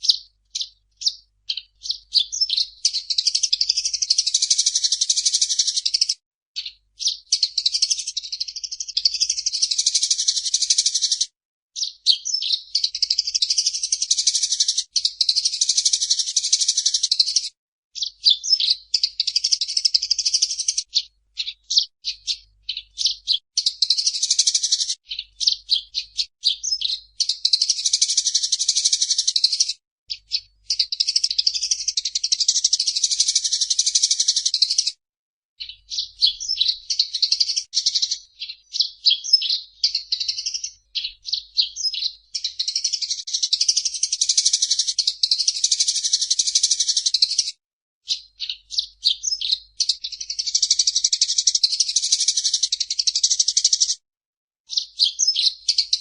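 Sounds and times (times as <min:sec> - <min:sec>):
sparrow chattering: 0:00.0 - 0:35.0, 0:35.6 - 0:47.5, 0:48.1 - 0:54.0, 0:54.7 - 0:56.0.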